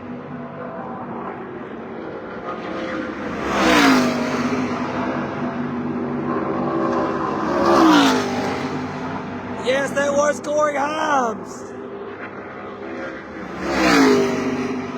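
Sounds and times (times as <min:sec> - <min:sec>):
race truck engines at speed: 0:00.0 - 0:14.9.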